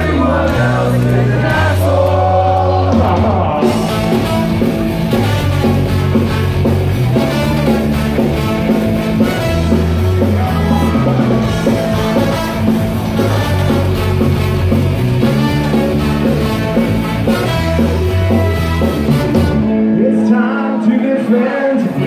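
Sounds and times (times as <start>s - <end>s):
ska-punk band playing live: 0.0s - 22.0s.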